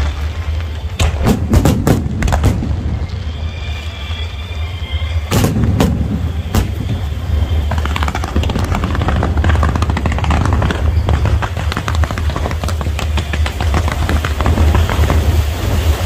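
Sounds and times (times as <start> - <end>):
firework shells booming: 0.0 - 16.0
fireworks crackling and popping: 0.0 - 16.0
steady low rumble: 0.0 - 16.0.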